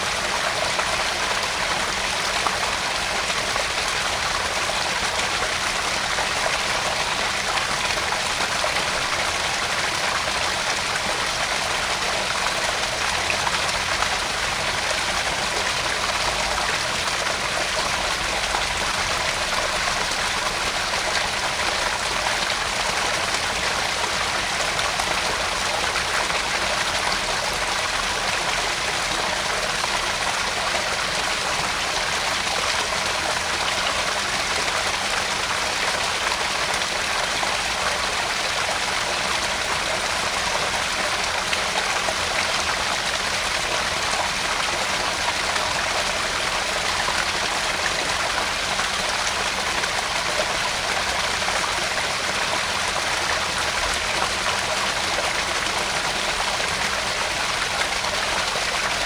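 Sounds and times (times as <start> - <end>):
waterfall splashing into pond: 0.0 - 59.0.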